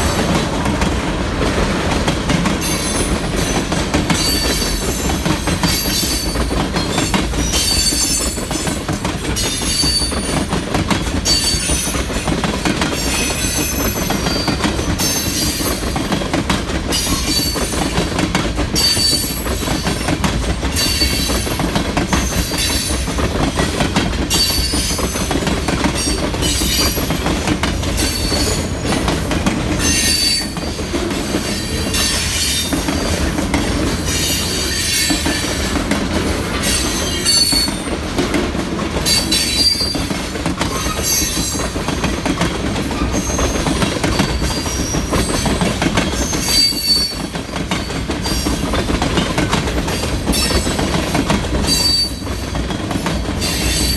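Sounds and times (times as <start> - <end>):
rumble of wheels on rail: 0.0 - 53.9
train wheels squealing: 2.6 - 10.6, 11.2 - 16.1, 16.9 - 27.3, 28.0 - 29.1, 29.8 - 33.2, 34.0 - 35.8, 36.6 - 38.0, 39.0 - 49.0, 49.9 - 53.9.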